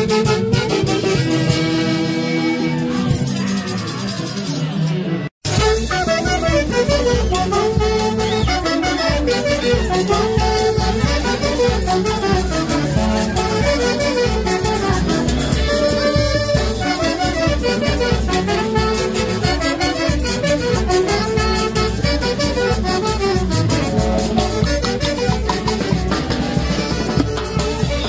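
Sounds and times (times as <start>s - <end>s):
saxophones playing melody: 0.0s - 3.4s, 5.5s - 28.0s.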